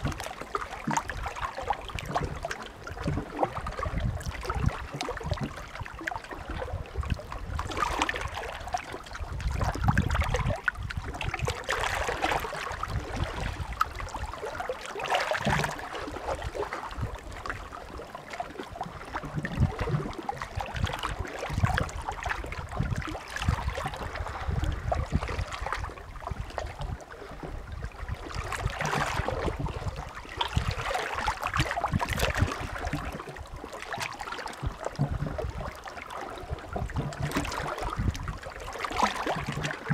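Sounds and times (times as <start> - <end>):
sea waves lapping at shore: 0.0 - 39.9.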